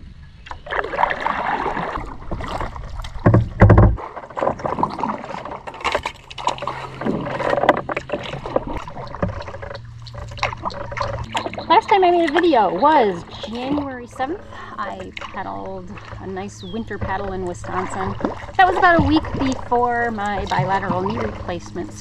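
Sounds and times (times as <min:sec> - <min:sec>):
paddle strokes splashing in water: 0:00.4 - 0:22.0.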